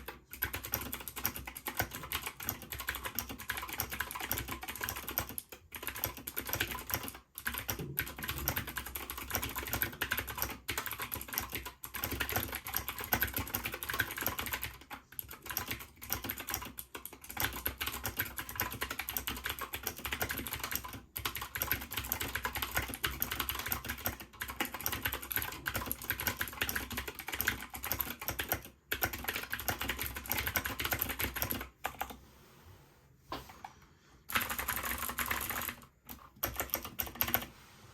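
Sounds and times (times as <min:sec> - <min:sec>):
mechanical keyboard typing clatter: 0:00.0 - 0:32.1, 0:34.3 - 0:37.5.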